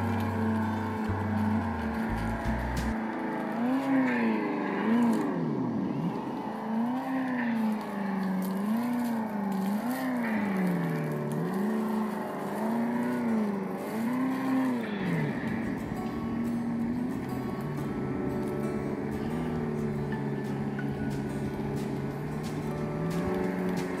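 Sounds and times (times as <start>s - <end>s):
rc car motor and gear whine: 0.0s - 24.0s.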